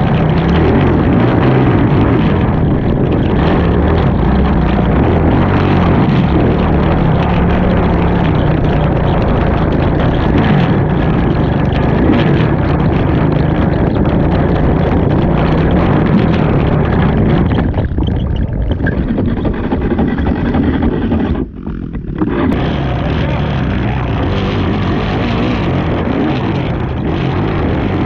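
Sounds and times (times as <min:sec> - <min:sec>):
atv engine running hard: 0:00.0 - 0:28.0.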